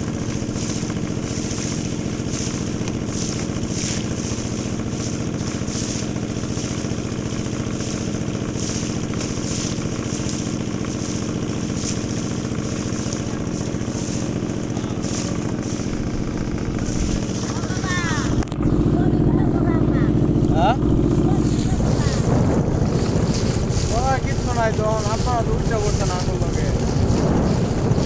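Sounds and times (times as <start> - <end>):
motorboat engine running: 0.0 - 28.0.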